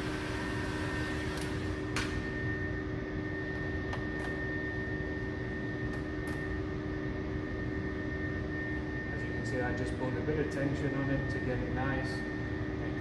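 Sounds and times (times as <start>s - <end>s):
heat gun fan whirring: 0.0s - 13.0s.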